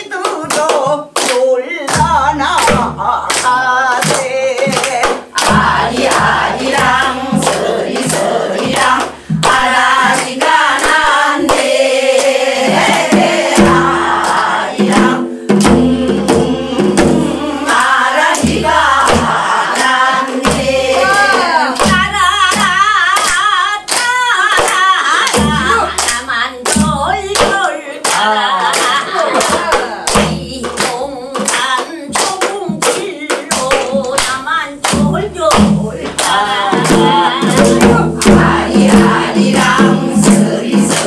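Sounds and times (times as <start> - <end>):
people clapping: 0.0 - 41.0
women singing together: 0.0 - 41.0
barrel drum: 1.9 - 23.1, 25.3 - 27.7, 29.4 - 31.7, 32.5 - 41.0.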